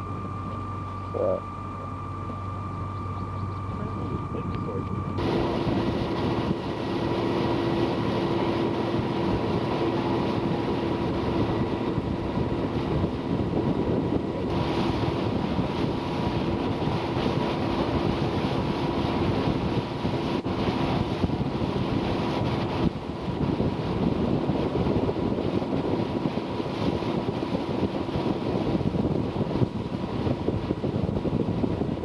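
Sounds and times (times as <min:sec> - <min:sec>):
boat engine humming: 0:00.0 - 0:32.0
wind noise on microphone: 0:00.0 - 0:32.0.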